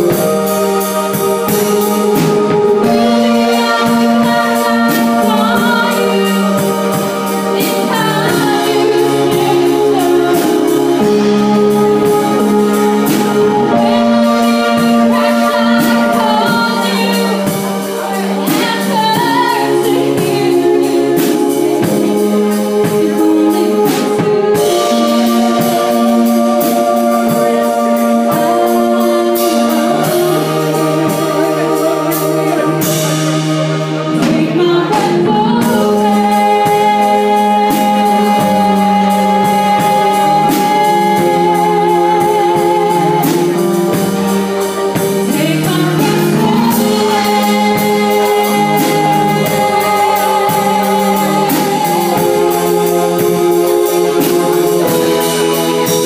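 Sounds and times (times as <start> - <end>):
drum kit: 0.0 - 56.0
electric bass: 0.0 - 56.0
keyboard: 0.0 - 56.0
person singing: 0.0 - 56.0.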